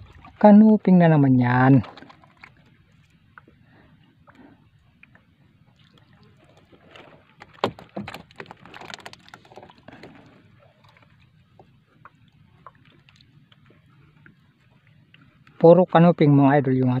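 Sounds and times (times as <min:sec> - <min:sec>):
water splashing and sloshing: 0:00.0 - 0:16.4.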